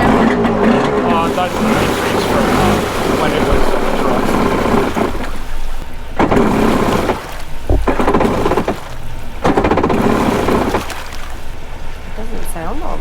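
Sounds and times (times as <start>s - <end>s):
electric starter cranking engine: 0.0s - 12.2s.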